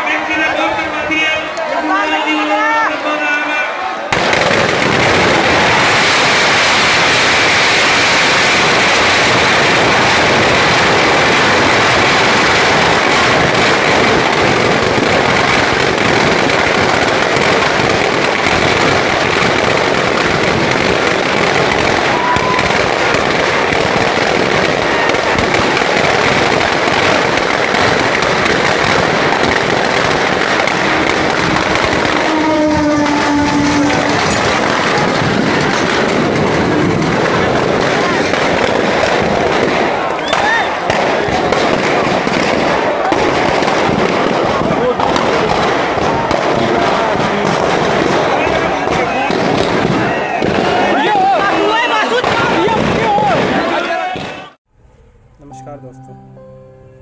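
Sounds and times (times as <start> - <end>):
firecrackers crackling: 0.0 - 54.6.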